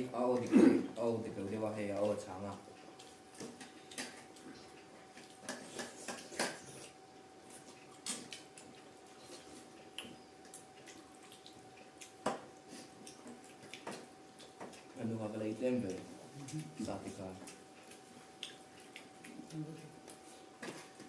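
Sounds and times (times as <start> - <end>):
chewing clicks: 1.7 - 15.0, 17.4 - 21.0.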